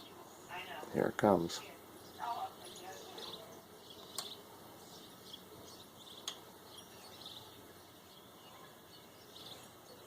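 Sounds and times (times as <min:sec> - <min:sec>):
faint outdoor ambience: 0:00.0 - 0:10.0.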